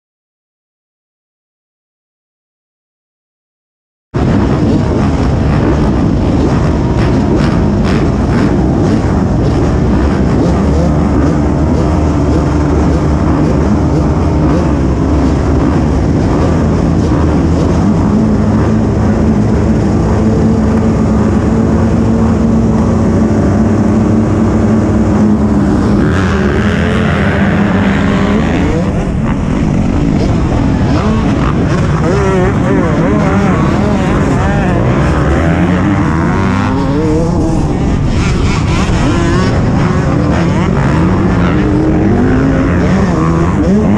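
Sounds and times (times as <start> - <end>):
dirt bike engines revving: 4.2 - 43.9.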